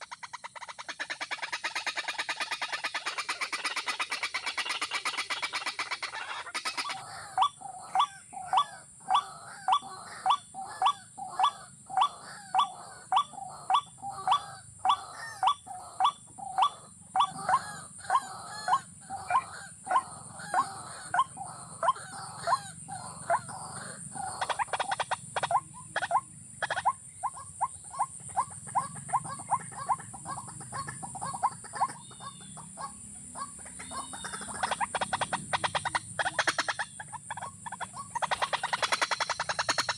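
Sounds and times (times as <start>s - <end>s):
steady high-pitched hiss: 0.0s - 39.9s
waterhen calling: 0.0s - 39.9s.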